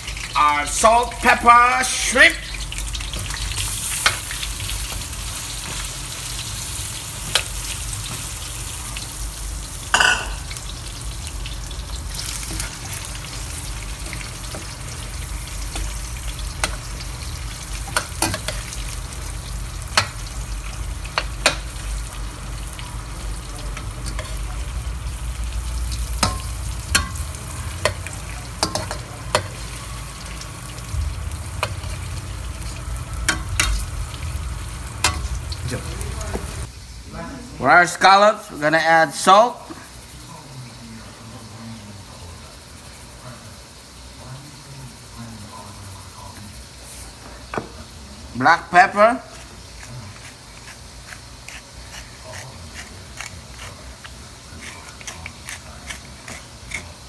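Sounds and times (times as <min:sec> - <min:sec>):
prawns sizzling in hot oil: 0:00.0 - 0:57.0.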